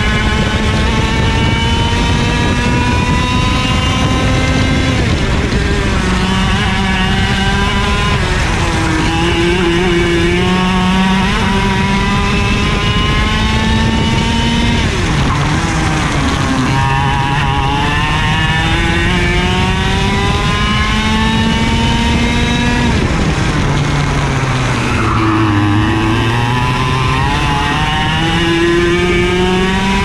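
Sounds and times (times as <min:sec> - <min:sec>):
kart engine revving: 0:00.0 - 0:30.0
wind rushing over microphone: 0:00.0 - 0:30.0.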